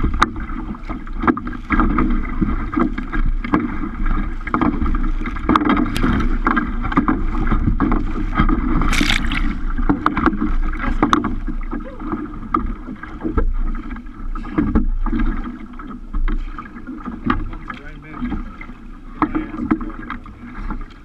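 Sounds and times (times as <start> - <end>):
water splashing against kayak: 0.0 - 21.0
wind rumble on microphone: 0.0 - 21.0.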